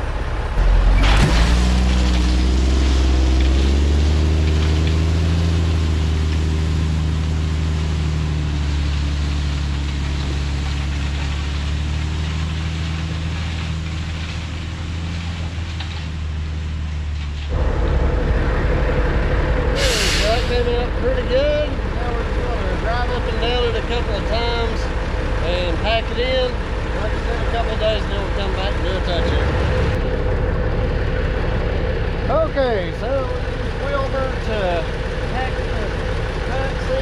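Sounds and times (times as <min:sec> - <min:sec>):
diesel truck engine running: 0:00.0 - 0:37.0
different engine sound: 0:00.0 - 0:37.0.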